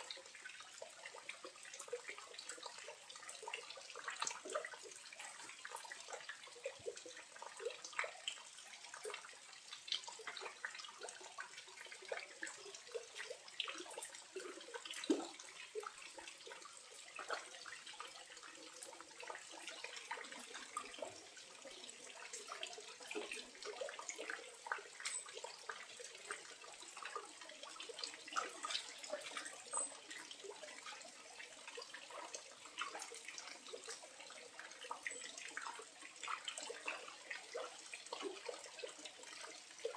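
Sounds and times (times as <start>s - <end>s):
water trickling over rock: 0.0s - 39.9s.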